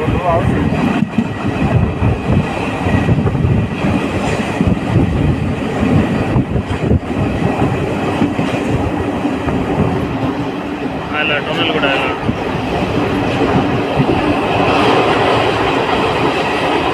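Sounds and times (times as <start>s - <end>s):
train rumbling: 0.0s - 16.9s
wheels clacking over rail joints: 0.0s - 16.9s.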